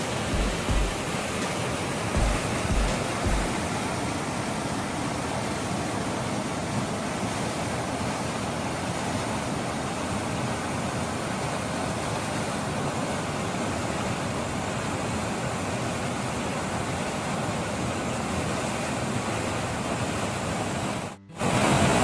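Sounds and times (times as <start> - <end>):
fast-flowing river rushing: 0.0 - 22.0.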